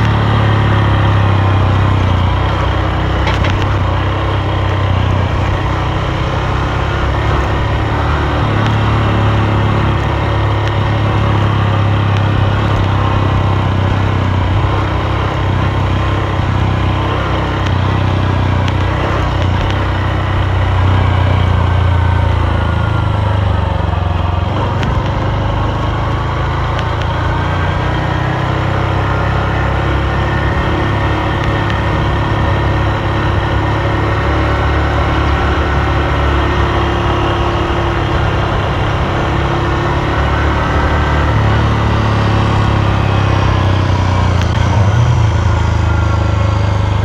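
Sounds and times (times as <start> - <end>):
motorcycle engine humming: 0.0 - 47.0.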